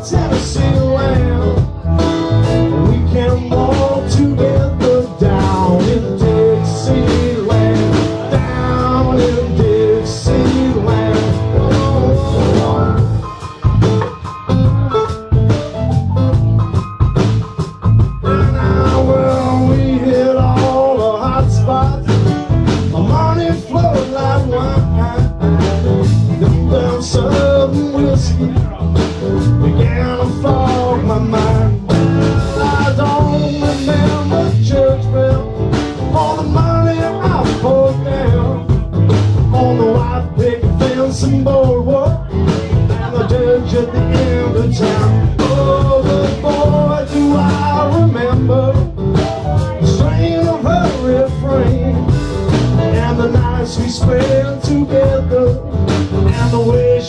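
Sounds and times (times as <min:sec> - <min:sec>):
live blues-rock band playing: 0:00.0 - 0:57.0.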